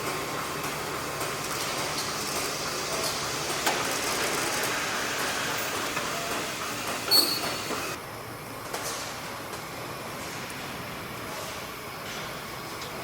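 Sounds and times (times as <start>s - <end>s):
machine hiss and hum: 0.0s - 13.0s.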